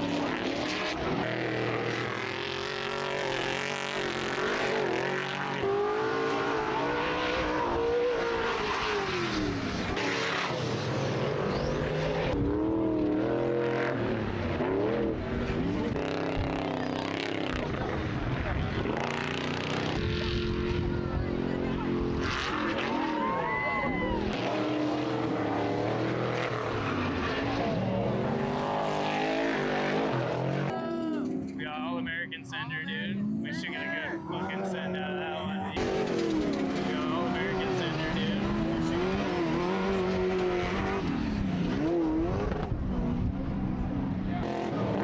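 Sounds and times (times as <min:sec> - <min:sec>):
racing engines revving: 0:00.0 - 0:45.0.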